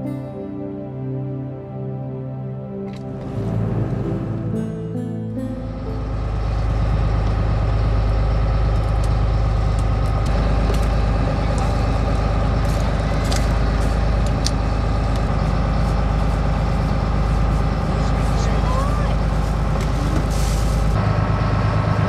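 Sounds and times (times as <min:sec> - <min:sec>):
boat engine humming: 0:02.8 - 0:22.0.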